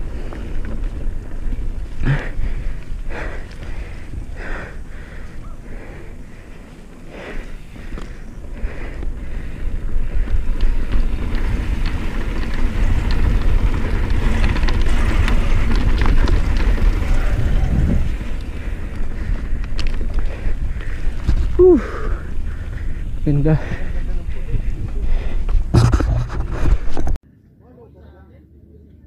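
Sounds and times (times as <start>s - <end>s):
tyres rolling over dirt: 0.0s - 27.1s
bike clicks and rattles: 0.0s - 27.2s
wind buffeting microphone: 0.0s - 27.2s.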